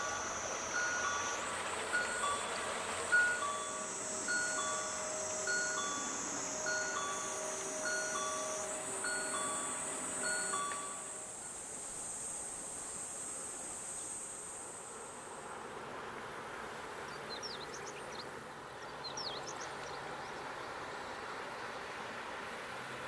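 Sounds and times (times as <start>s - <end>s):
boat engine hum: 0.0s - 23.0s
cicadas buzzing: 0.0s - 23.0s.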